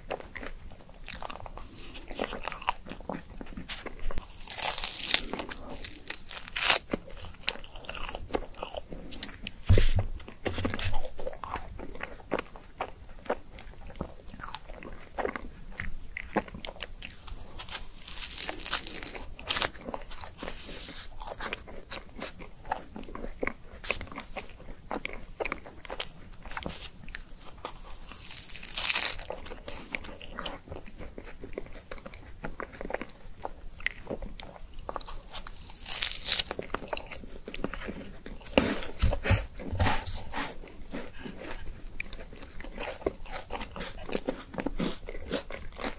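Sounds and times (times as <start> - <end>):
crunching wafer cone: 0.0 - 9.6, 10.3 - 45.9
wet chewing: 0.0 - 45.9.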